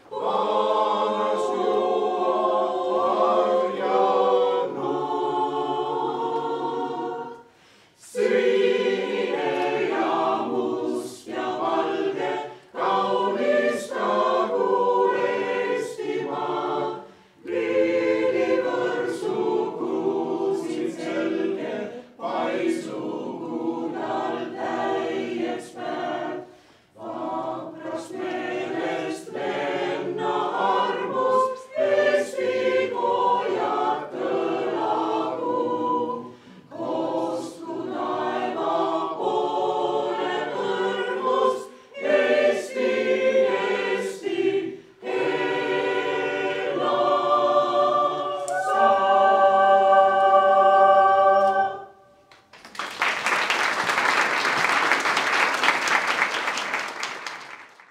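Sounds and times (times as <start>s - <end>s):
mixed choir singing: 0.0s - 52.3s.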